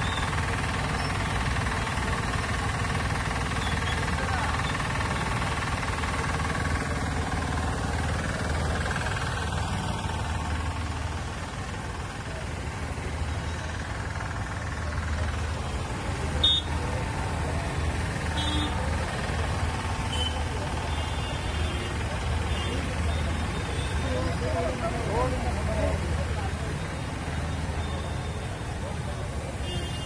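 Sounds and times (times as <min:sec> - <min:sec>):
large vehicle engine throbbing: 0:00.0 - 0:29.6.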